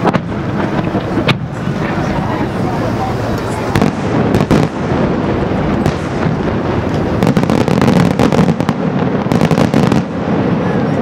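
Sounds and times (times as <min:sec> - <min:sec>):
echoing rumble: 0:00.0 - 0:11.0
sharp fireworks bangs: 0:00.0 - 0:11.0.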